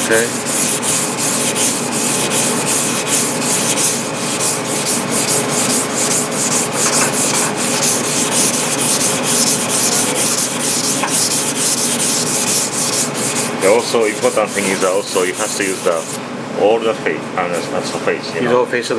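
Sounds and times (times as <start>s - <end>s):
knife scraping on whetstone: 0.2s - 16.2s.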